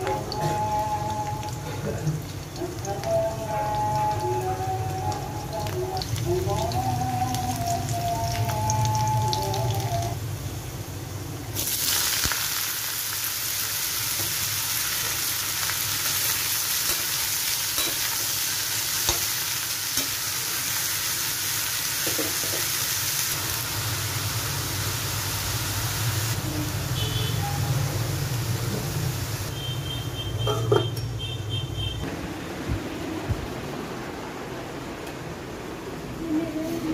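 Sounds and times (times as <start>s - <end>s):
vegetables sizzling in hot oil: 0.0s - 29.8s.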